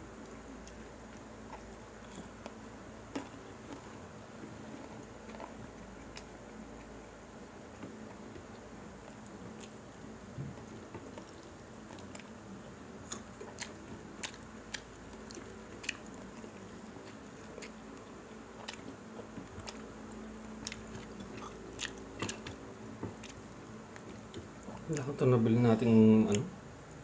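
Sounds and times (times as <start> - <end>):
chewing and crunching: 0.0 - 27.0
faint steady hum: 0.0 - 27.0.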